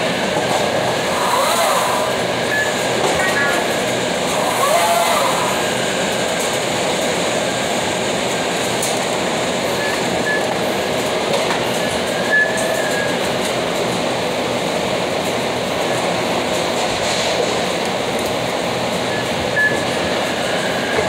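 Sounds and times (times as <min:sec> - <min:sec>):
mechanical rumble and clatter: 0:00.0 - 0:21.0.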